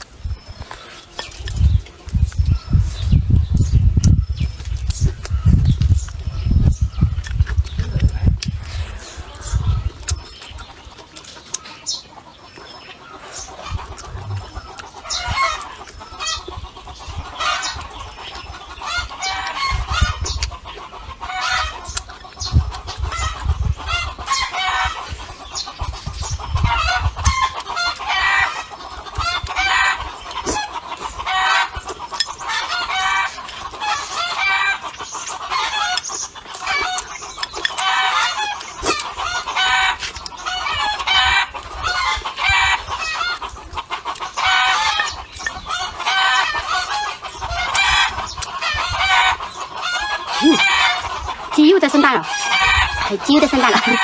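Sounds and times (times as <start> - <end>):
hens clucking and cackling: 8.5 - 54.0.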